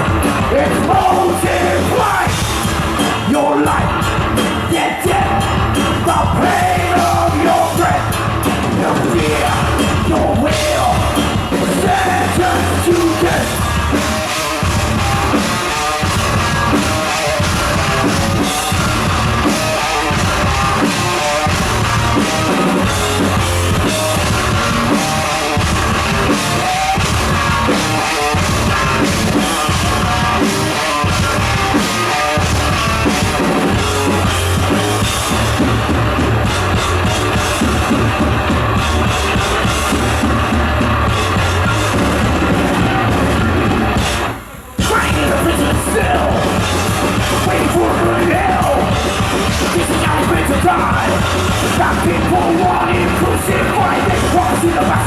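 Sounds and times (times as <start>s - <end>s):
bass guitar: 0.0s - 55.0s
distorted electric guitars: 0.0s - 55.0s
fast drumming: 0.0s - 55.0s.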